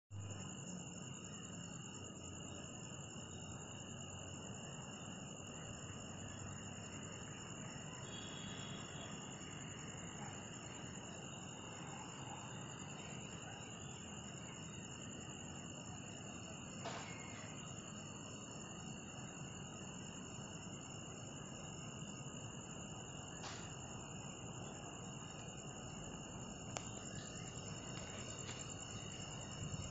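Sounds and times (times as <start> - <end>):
crickets trilling: 0.1 - 29.9.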